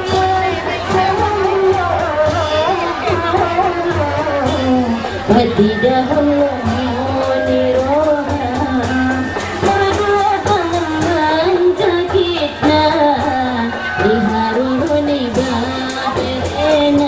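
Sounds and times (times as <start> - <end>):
person singing with vibrato: 0.0 - 17.0.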